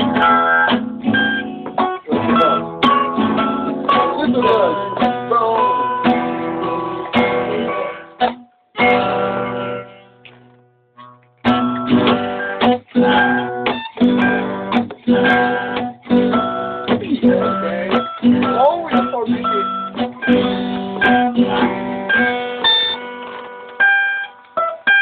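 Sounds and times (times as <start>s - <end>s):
guitar strumming chords: 0.0s - 25.0s.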